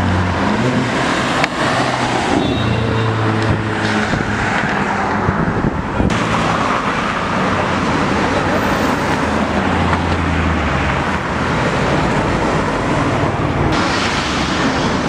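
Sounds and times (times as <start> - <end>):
car engines running: 0.0 - 15.0.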